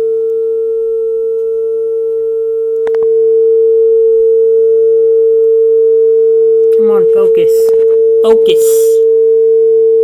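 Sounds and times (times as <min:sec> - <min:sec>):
sine test tone: 0:00.0 - 0:10.0.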